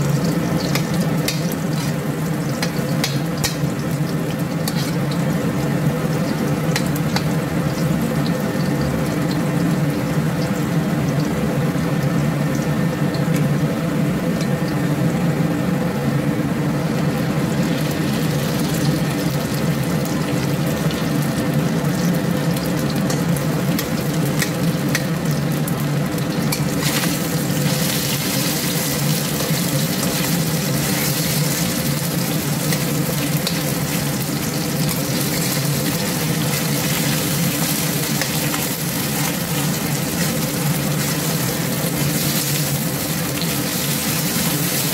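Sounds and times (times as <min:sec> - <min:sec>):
constant low hum: 0:00.0 - 0:44.9
food sizzling in a wok: 0:00.0 - 0:44.9.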